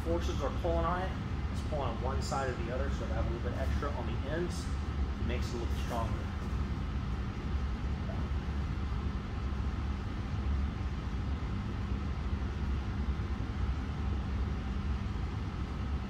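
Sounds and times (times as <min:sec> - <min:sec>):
faint hum: 0:00.0 - 0:16.0
low background rumble: 0:00.0 - 0:16.0.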